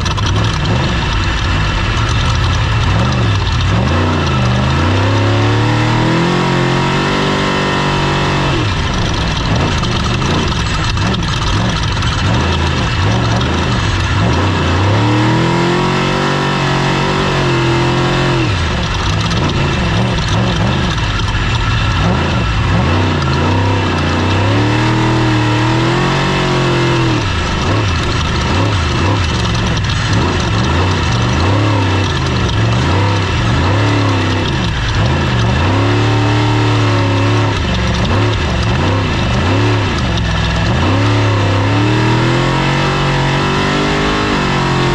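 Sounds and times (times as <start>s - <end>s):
race vehicle engine revving: 0.0s - 44.9s
wind and road noise: 0.0s - 44.9s.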